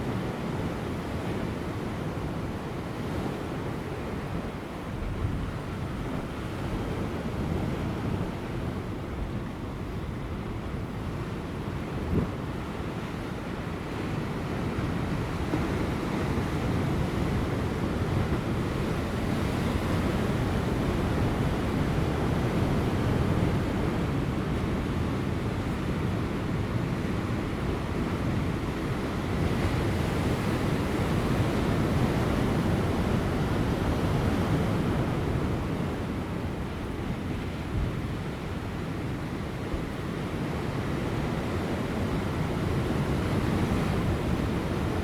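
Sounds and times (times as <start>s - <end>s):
light wind: 0.0s - 45.0s.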